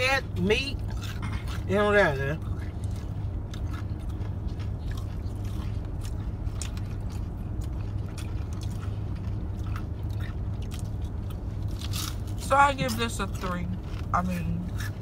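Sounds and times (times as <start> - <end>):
chewing crunchy fried food: 0.0 - 15.0
steady low hum: 0.0 - 15.0.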